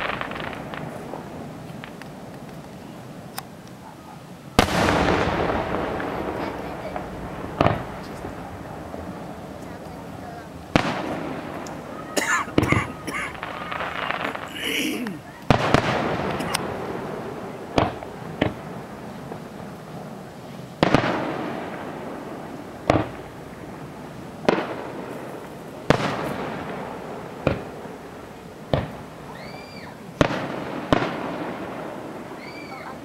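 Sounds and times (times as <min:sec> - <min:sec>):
fireworks booming: 0:00.0 - 0:33.0.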